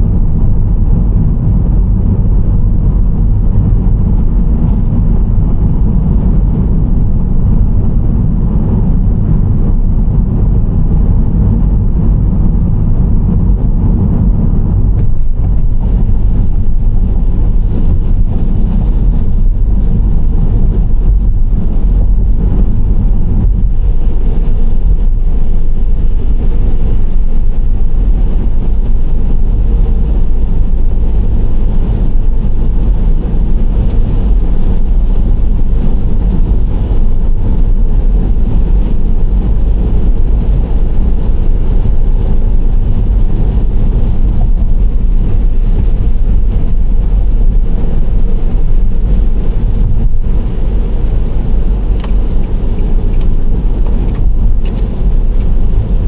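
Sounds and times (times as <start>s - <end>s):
road and engine noise: 0.0s - 56.0s.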